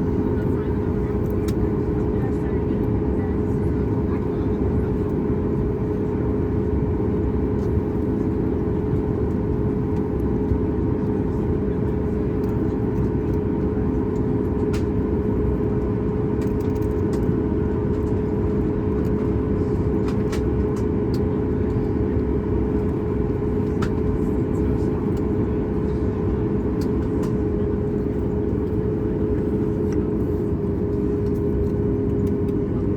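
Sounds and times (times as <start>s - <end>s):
airplane cabin engine drone: 0.0s - 32.9s.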